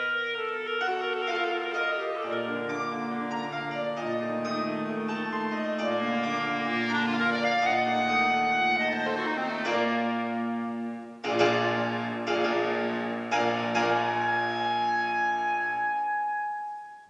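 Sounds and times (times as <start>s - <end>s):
grand piano chords: 0.0s - 17.0s.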